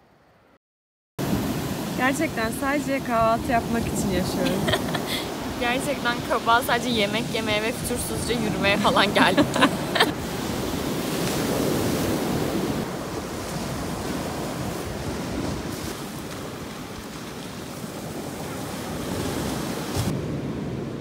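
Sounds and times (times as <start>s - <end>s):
sea surf washing on shore: 1.2s - 21.0s
wind on microphone: 1.3s - 21.0s.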